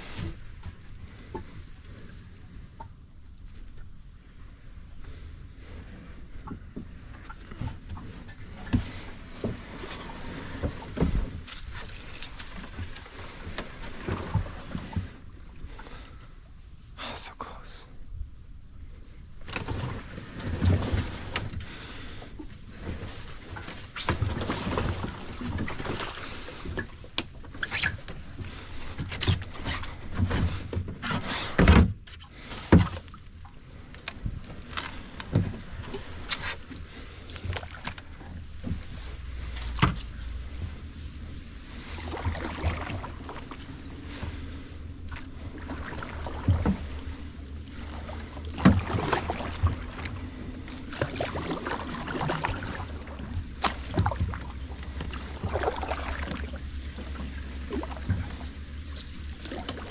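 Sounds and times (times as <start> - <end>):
paddle splashing in water: 5.2 - 16.2, 19.4 - 59.9.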